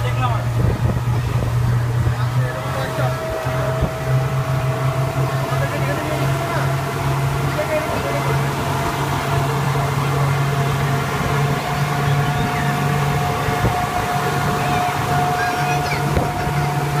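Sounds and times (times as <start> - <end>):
outboard motor running: 0.0 - 17.0
water rushing past hull: 0.0 - 17.0.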